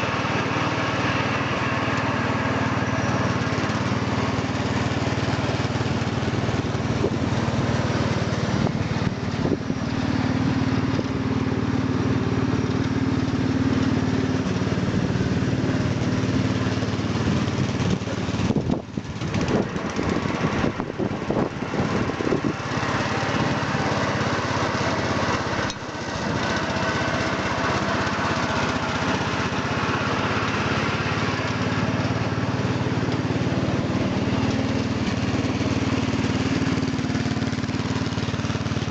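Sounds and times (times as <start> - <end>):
lawn tractor engine mowing: 0.0 - 38.9.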